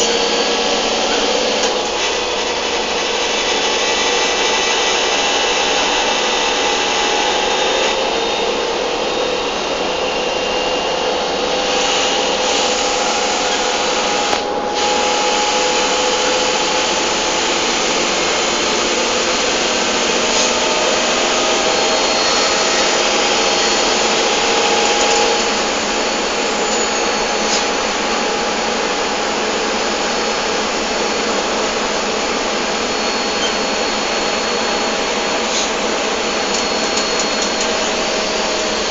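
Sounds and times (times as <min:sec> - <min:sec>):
train rolling on track: 0:00.0 - 0:38.9.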